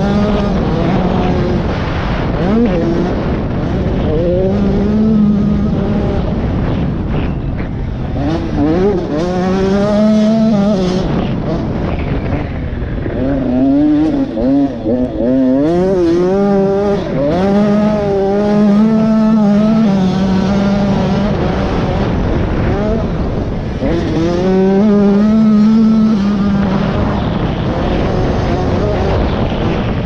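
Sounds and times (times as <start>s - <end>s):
motocross engine revving: 0.0s - 30.0s.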